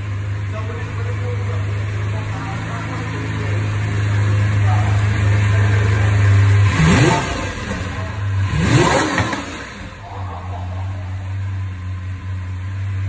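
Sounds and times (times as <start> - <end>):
car engine idling: 0.0 - 13.0
car engine revving: 0.0 - 13.0.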